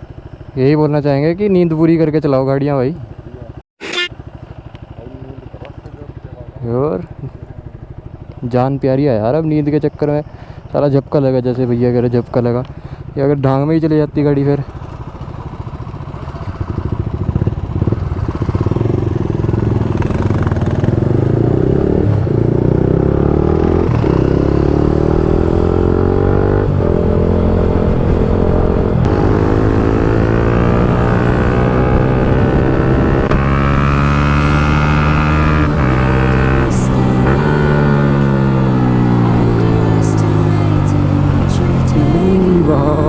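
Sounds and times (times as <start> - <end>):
motorcycle accelerating: 0.0 - 13.2, 13.8 - 43.0.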